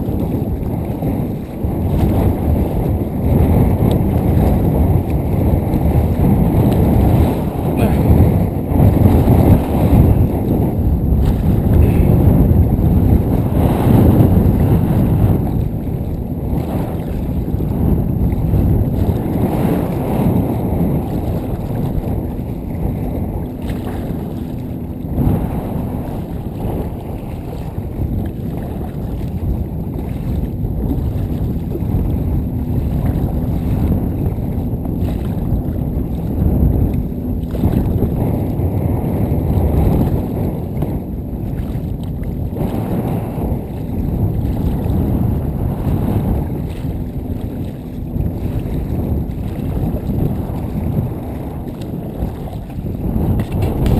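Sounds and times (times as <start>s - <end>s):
waves splashing against kayak hull: 0.0s - 53.9s
wind buffeting microphone: 0.0s - 53.9s.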